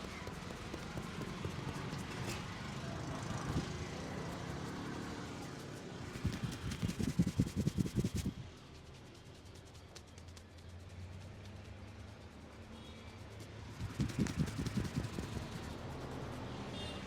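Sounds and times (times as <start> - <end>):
rhythmic hand pats on head: 0.0 - 12.6, 13.2 - 16.5
street traffic rumble: 0.0 - 17.0.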